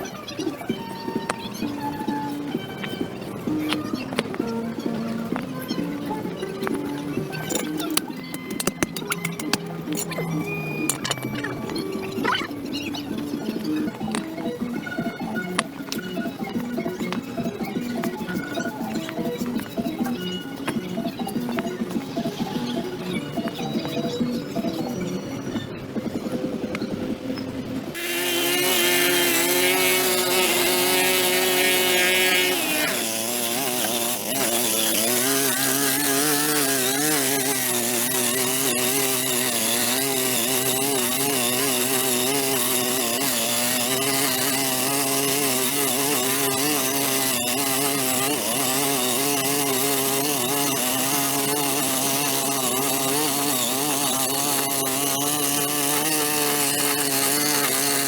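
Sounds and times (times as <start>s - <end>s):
power tool small engine running: 0.0s - 27.2s, 27.8s - 58.0s.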